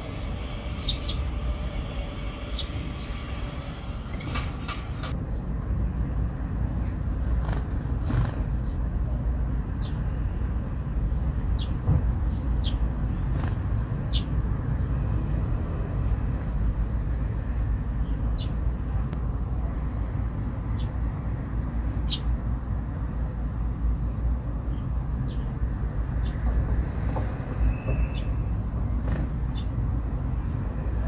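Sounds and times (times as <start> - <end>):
sparrows chirping: 0.0 - 31.0.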